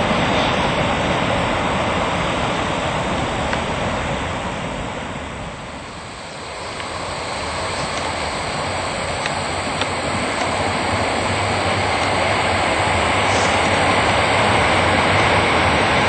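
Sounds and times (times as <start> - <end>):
freight train wagons on rails: 0.0 - 16.0
wind on microphone: 0.0 - 16.0.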